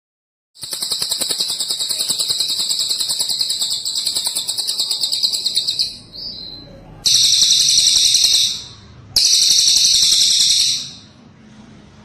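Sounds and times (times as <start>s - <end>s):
songbird high-pitched trill: 0.6s - 11.1s.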